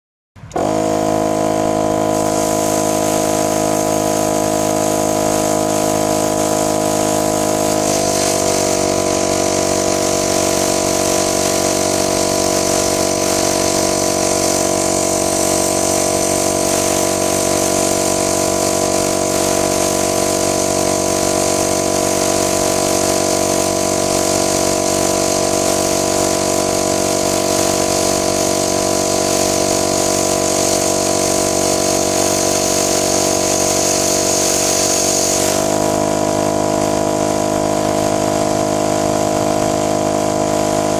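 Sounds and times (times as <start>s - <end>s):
air hissing: 0.4s - 37.1s
air compressor running: 0.4s - 40.9s.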